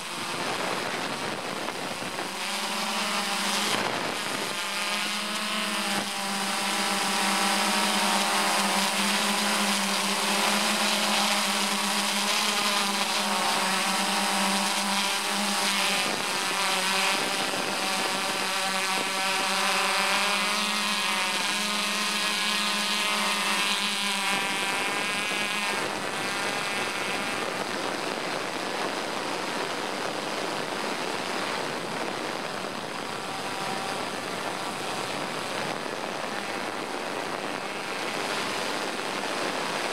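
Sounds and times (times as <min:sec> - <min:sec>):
drone propellers whirring: 0:00.0 - 0:39.9
steady rushing noise: 0:00.0 - 0:39.9.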